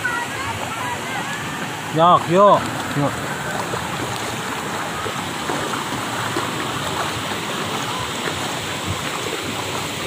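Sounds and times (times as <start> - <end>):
pool water rushing and splashing: 0.0 - 10.0.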